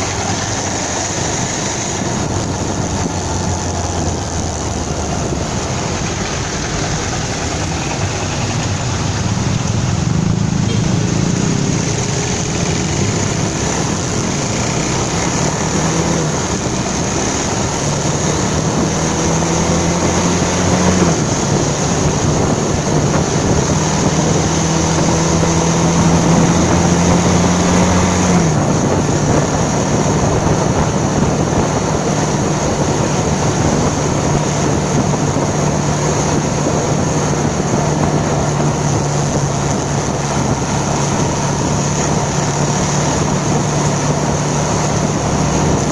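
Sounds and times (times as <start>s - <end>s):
motorcycle engine running: 0.0s - 45.9s
wind and road noise: 0.0s - 45.9s.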